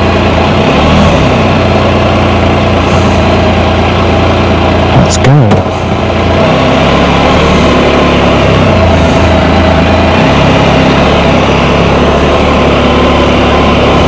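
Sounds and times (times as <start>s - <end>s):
motorcycle engine riding off: 0.0s - 14.0s.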